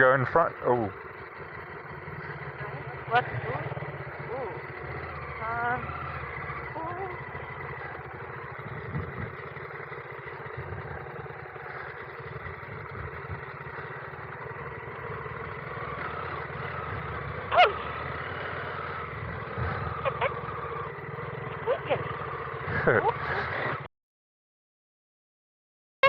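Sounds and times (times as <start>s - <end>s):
motorcycle engine running: 0.0s - 23.9s
wind and road noise: 0.0s - 23.9s.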